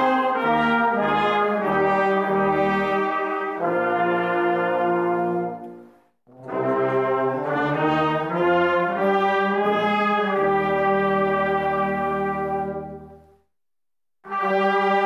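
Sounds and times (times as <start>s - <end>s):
brass band playing a slow hymn: 0.0s - 13.3s, 14.3s - 15.0s.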